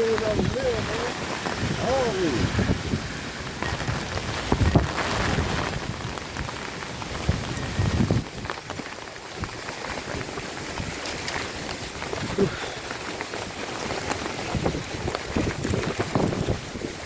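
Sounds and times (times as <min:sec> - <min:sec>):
dull low bumps: 0:00.0 - 0:17.0
rain pattering on surfaces: 0:00.0 - 0:17.0.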